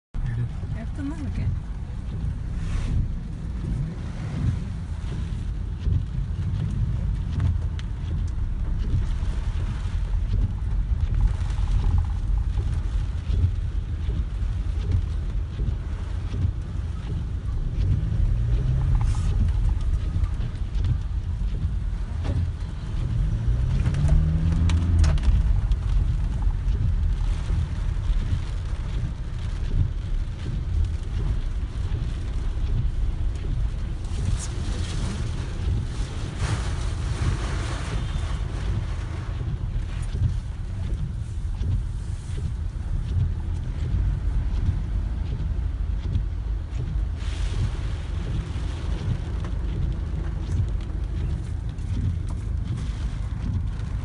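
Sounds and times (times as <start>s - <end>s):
car rumbling: 0.1s - 54.0s
wind and road noise: 0.1s - 54.0s
rain hiss on windscreen: 0.2s - 54.0s.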